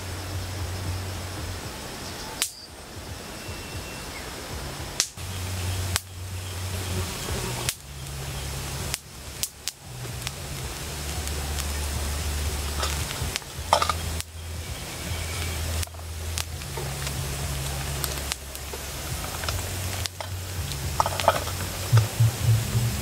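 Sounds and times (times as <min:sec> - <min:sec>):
campfire hissing: 0:00.0 - 0:23.0
fire pops and crackles: 0:00.0 - 0:23.0
low steady hum: 0:00.0 - 0:23.0.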